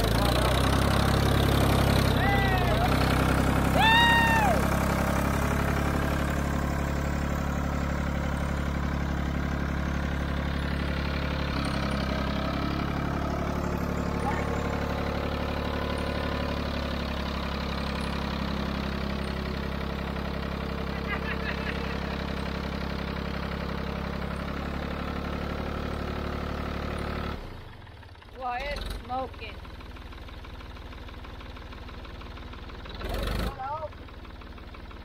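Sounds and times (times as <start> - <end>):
backhoe engine running: 0.0 - 35.0.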